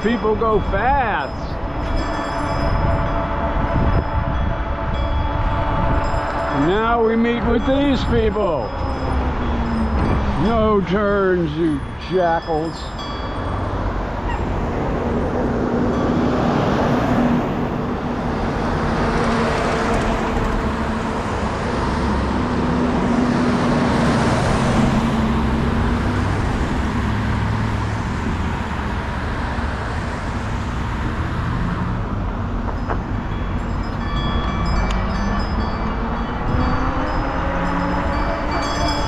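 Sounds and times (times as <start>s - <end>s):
motor vehicles passing: 0.9s - 39.0s
engine hum: 1.4s - 39.0s.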